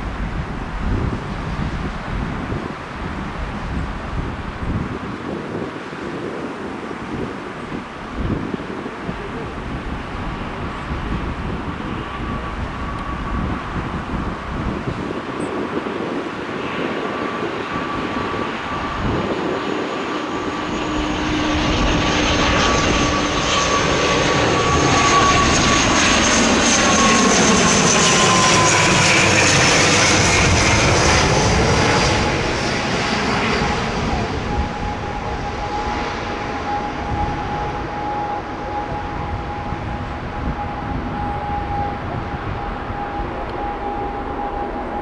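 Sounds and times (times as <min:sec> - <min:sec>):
jet airliner passing overhead: 0:00.0 - 0:45.0.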